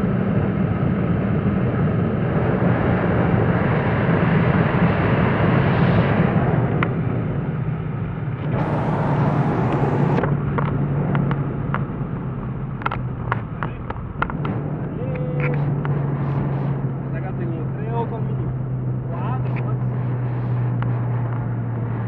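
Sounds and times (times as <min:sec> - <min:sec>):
car engine droning: 0:00.0 - 0:22.0.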